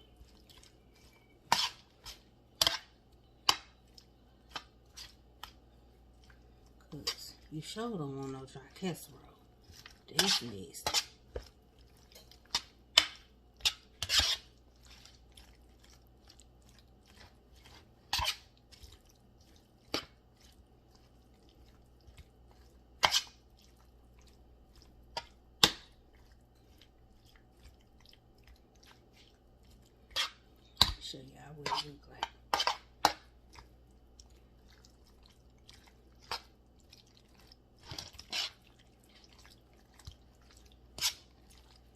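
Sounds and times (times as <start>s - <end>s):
wet stirring: 0.0s - 41.9s.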